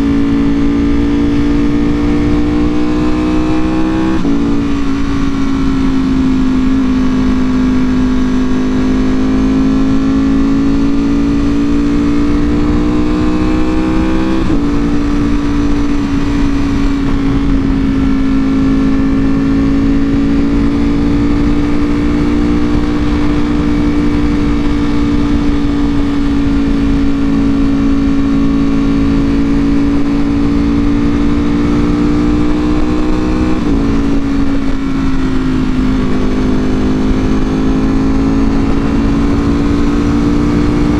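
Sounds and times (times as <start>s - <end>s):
motorcycle engine at road speed: 0.0s - 40.9s
wind noise: 0.0s - 40.9s.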